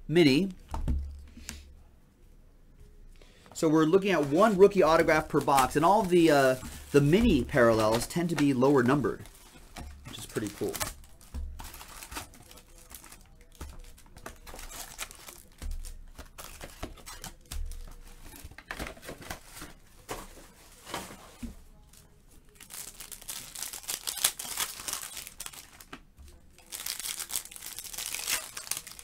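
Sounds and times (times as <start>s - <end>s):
foil wrappers crinkling: 3.9s - 29.0s.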